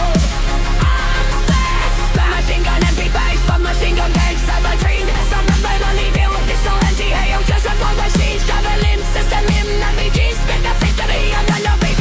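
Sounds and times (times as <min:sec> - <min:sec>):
dubstep music with heavy bass: 0:00.0 - 0:12.0.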